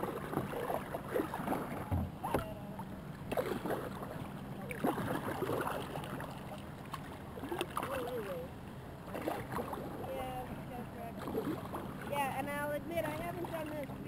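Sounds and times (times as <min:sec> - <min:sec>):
kayak paddle splashing: 0:00.0 - 0:14.0
steady low hum: 0:00.0 - 0:14.0.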